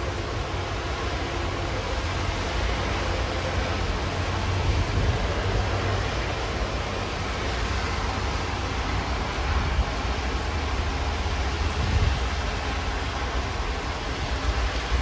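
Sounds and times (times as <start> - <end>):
highway traffic rumble: 0.0 - 15.0
steady rain hiss: 0.0 - 15.0.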